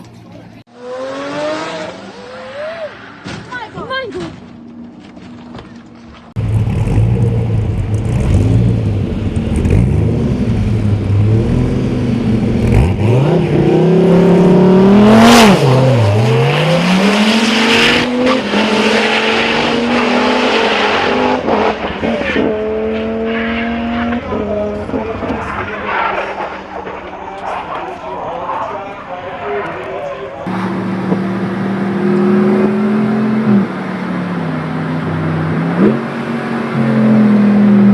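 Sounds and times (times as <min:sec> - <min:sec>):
sports car engine revving: 0:06.4 - 0:37.9.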